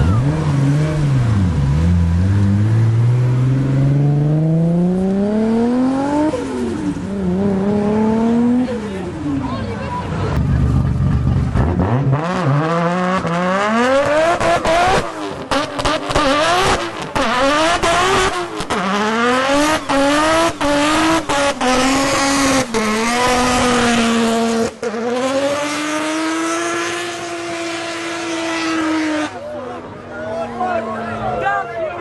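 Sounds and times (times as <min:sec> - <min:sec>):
car engine revving: 0:00.0 - 0:09.5, 0:10.2 - 0:29.4.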